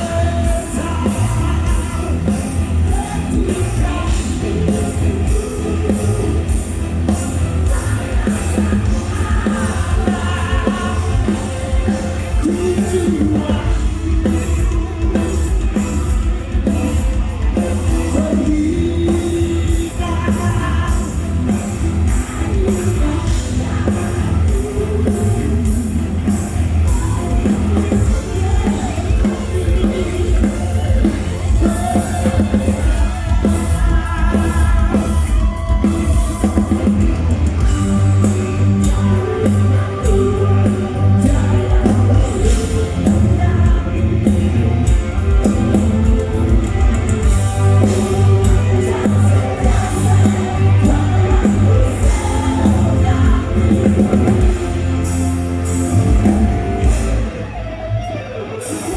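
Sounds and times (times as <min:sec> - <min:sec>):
person singing: 0:00.0 - 0:57.6
drum kit: 0:00.0 - 0:58.9
electric guitar: 0:00.0 - 0:58.9
live rock band: 0:00.0 - 0:58.9.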